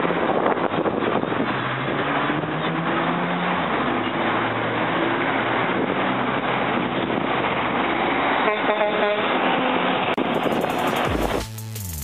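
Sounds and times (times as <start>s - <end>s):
traffic and tyre noise: 0.0s - 11.5s
truck engine accelerating through gears: 0.0s - 12.0s.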